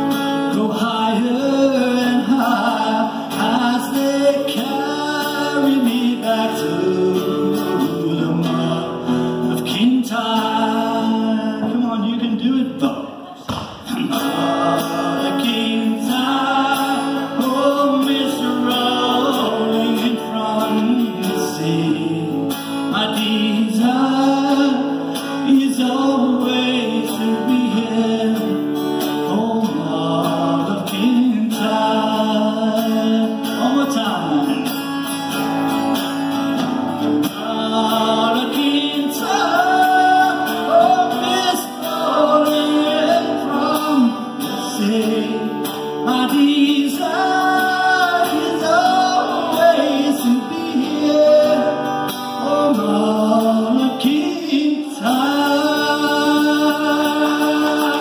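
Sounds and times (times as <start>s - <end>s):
man singing: 0.0s - 35.3s, 36.6s - 58.0s
acoustic guitar strumming: 0.0s - 58.0s.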